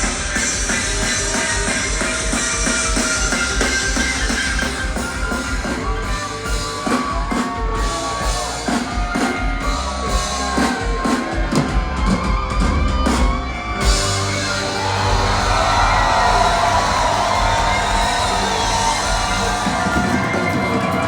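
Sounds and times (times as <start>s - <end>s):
drum kit beat: 0.0s - 21.0s
rock music: 0.0s - 21.0s.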